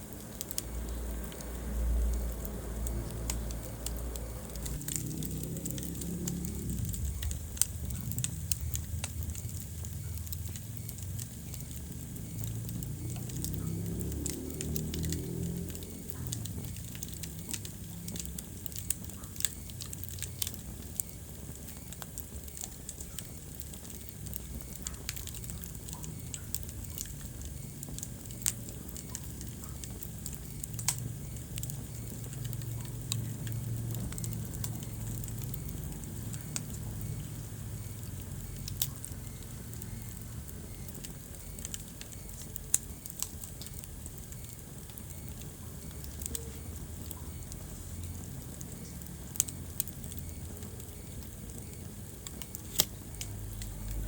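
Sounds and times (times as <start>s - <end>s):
low rumble of flame: 0.0s - 54.0s
sharp pops of fire: 0.0s - 54.0s
wood fire crackling: 0.0s - 54.0s.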